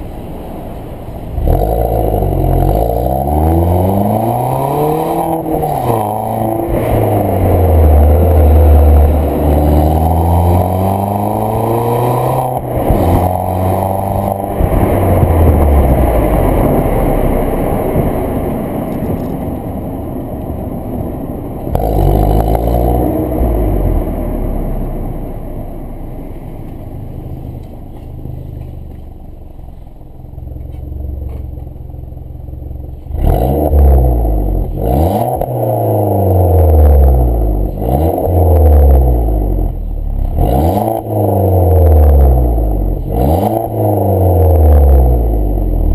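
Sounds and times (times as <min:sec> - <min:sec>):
car exhaust engine revving: 0:00.8 - 0:29.6, 0:30.2 - 0:45.9.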